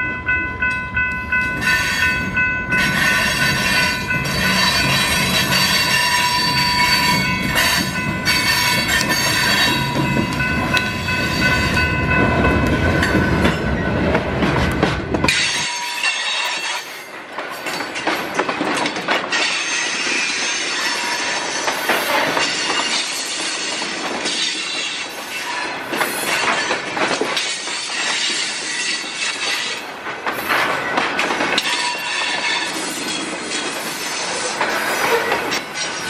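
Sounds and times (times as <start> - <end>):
train cars rolling: 0.0 - 36.0
wheels clicking over rail joints: 0.2 - 36.0.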